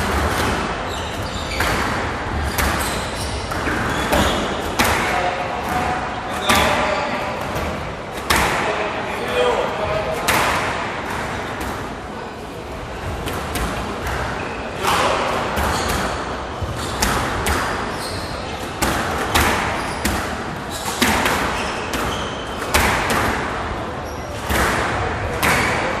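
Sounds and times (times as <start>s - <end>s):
squash ball hitting racquets and walls: 0.0s - 26.0s.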